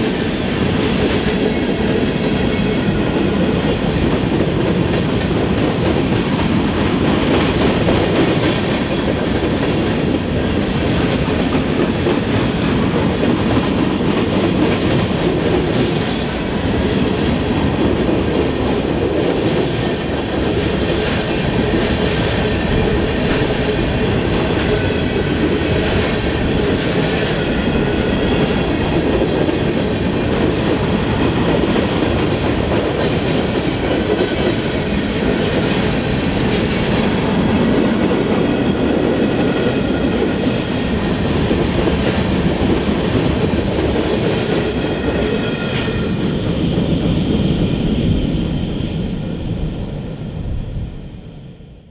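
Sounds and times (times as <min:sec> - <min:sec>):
freight train rolling past: 0:00.0 - 0:51.9.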